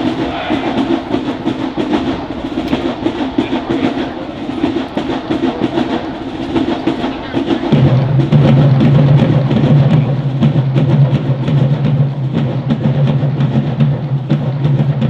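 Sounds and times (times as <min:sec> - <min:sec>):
drumline fast rhythm: 0:00.0 - 0:15.0.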